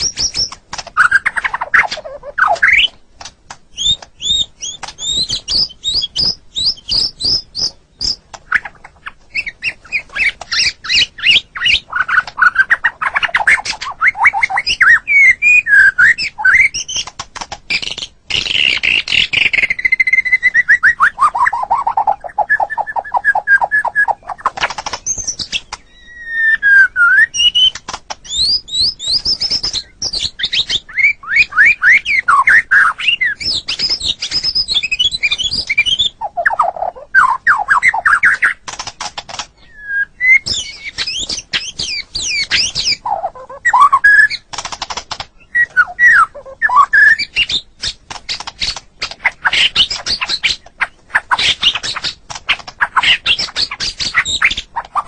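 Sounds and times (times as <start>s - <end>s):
bird singing whistled song: 0.0s - 3.0s, 3.7s - 17.1s, 17.7s - 38.6s, 39.6s - 44.5s, 45.4s - 52.2s, 52.8s - 55.0s.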